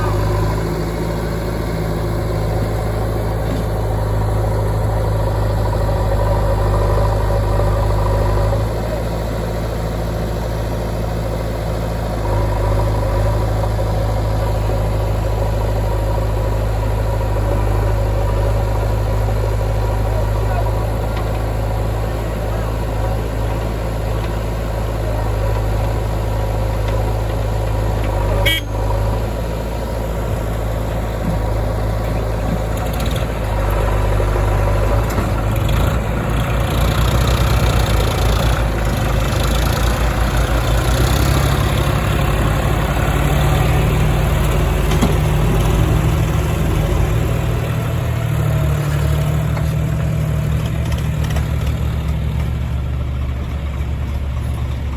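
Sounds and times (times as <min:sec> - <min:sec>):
diesel engines running: 0:00.0 - 0:54.9.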